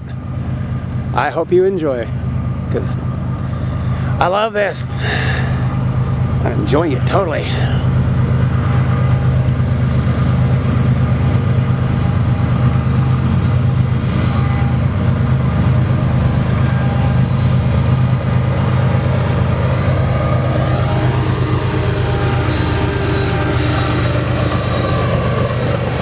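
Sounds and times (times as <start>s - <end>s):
diesel locomotive engine humming: 0.0s - 26.0s.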